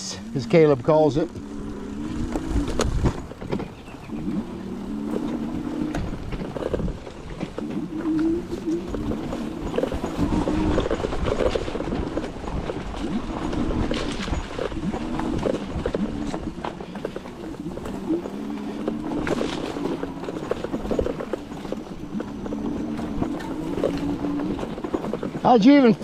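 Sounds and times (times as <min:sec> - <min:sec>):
bike bumps and rattles: 0:00.0 - 0:26.0
electric bike motor hum: 0:00.0 - 0:26.0
wind rumble on microphone: 0:00.0 - 0:26.0.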